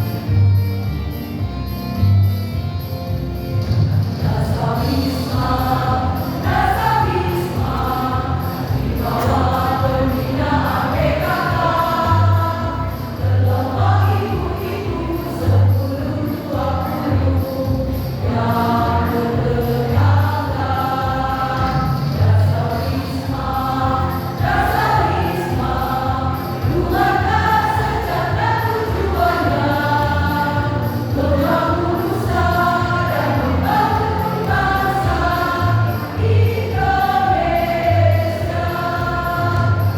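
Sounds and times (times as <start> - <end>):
choir singing: 4.2 - 39.9.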